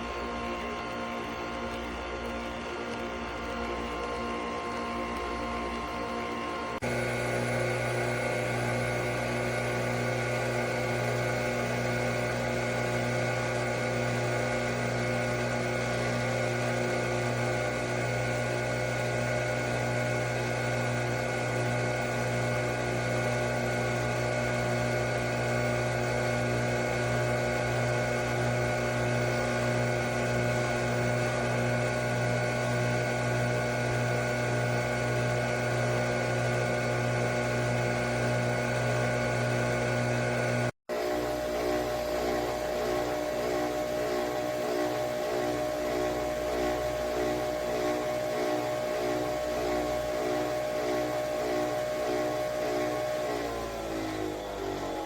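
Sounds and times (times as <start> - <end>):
coffee machine humming: 0.0 - 55.0.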